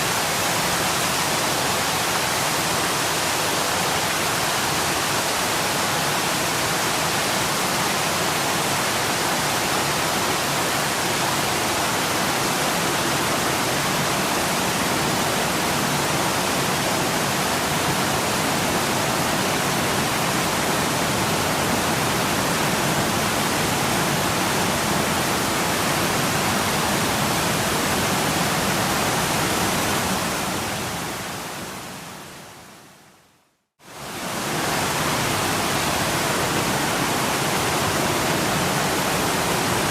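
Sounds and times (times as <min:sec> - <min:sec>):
waterfall rushing: 0:00.0 - 0:32.6, 0:33.9 - 0:39.9.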